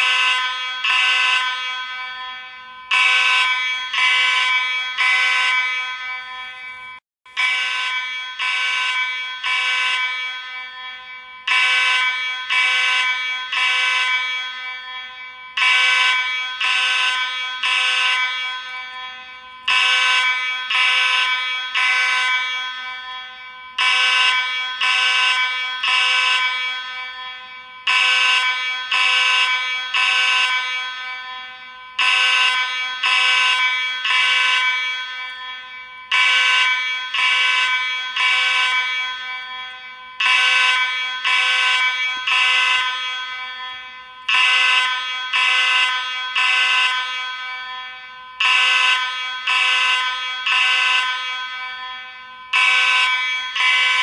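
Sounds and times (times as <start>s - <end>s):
fire alarm horn blasts: 0.0s - 54.0s.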